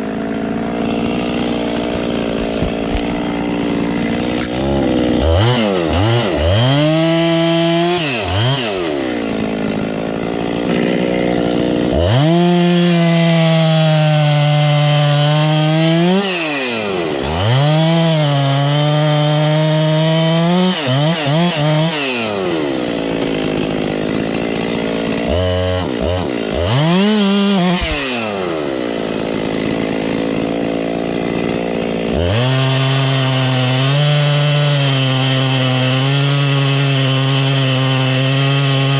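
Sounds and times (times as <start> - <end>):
chainsaw revving and cutting: 0.0 - 38.9.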